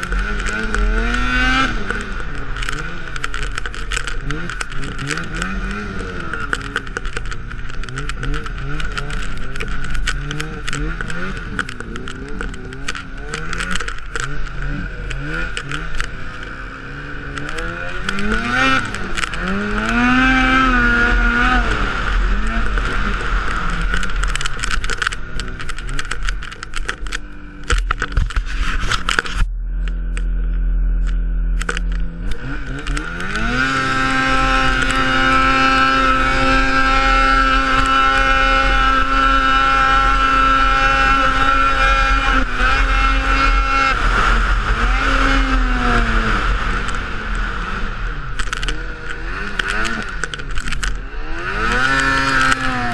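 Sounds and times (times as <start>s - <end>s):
snowmobile engine revving: 0.0s - 52.9s.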